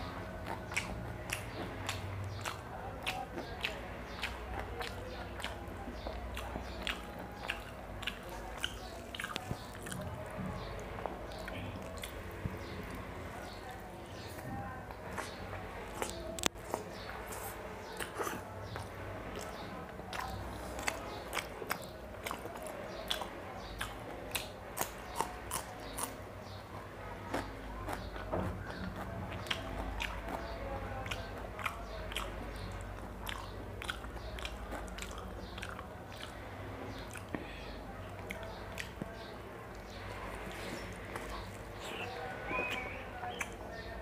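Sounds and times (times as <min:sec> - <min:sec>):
man chewing with wet smacks: 0:00.0 - 0:44.0.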